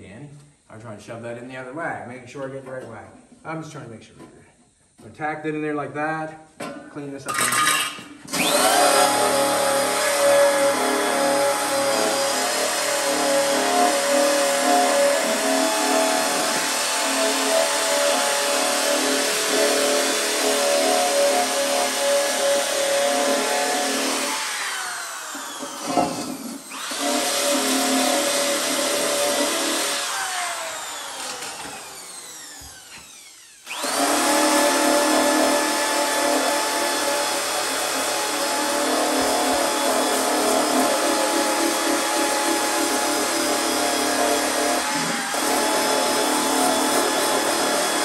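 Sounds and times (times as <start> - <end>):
drill grinding disc on steel: 7.3 - 48.0
drill winding down whine: 7.3 - 48.0.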